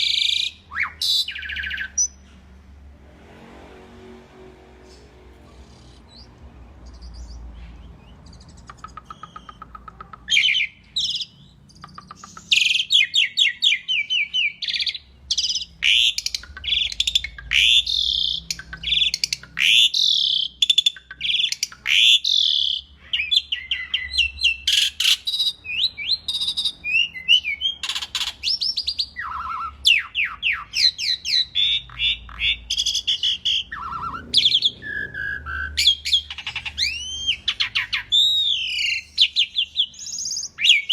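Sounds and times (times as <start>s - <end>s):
starling singing: 0.0s - 2.3s, 5.6s - 40.9s.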